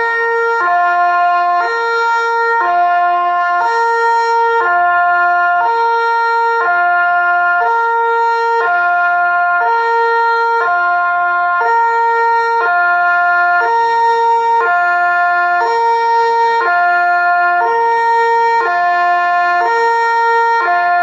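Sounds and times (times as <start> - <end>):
two-tone electronic siren: 0.0 - 21.0.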